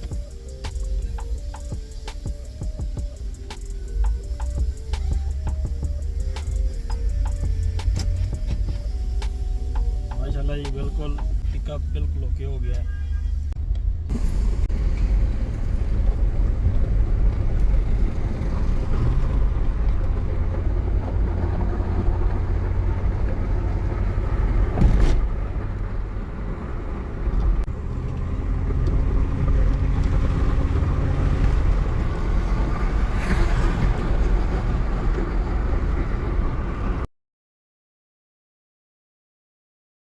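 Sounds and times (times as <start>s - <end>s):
car engine driving: 0.0s - 37.1s
road rumble: 0.0s - 37.1s.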